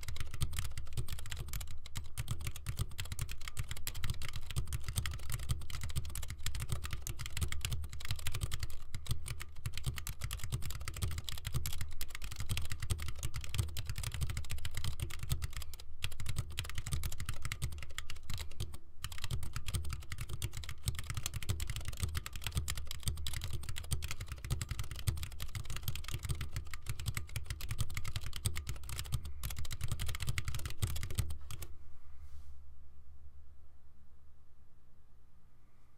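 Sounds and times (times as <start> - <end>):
fast typing key clicks: 0.0 - 31.6.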